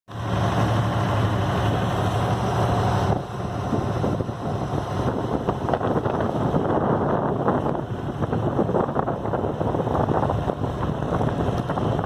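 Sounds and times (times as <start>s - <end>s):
boat engine humming: 0.1s - 12.0s
wind buffeting microphone: 1.2s - 12.0s.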